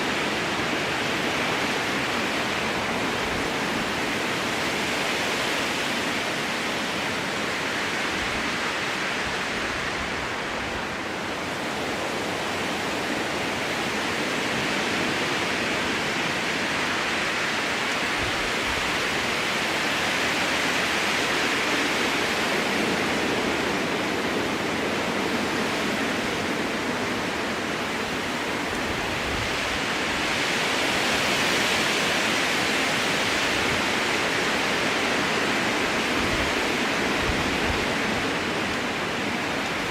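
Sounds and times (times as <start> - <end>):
strong wind through forest: 0.0 - 39.9.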